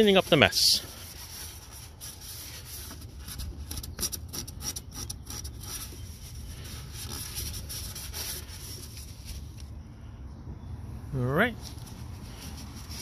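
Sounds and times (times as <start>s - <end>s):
paper towel rubbing plastic: 0.0s - 9.6s, 11.8s - 13.0s.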